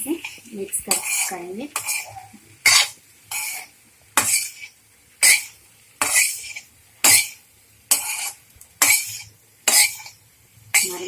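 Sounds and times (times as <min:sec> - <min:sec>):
spoon scraping a pan: 0:00.0 - 0:11.0.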